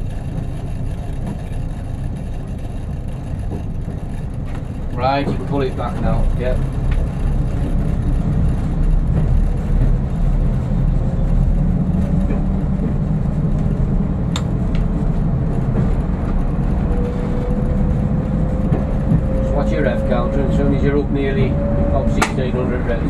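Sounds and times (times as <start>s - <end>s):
train diesel engine rumble: 0.0s - 23.0s.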